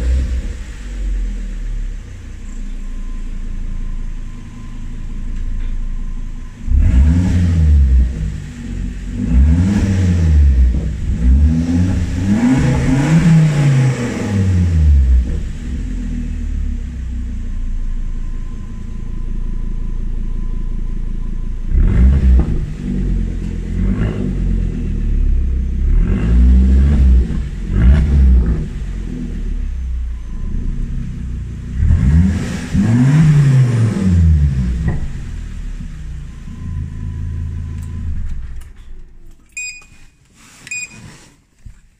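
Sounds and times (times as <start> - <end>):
car engine revving: 0.0 - 5.4, 6.0 - 38.7.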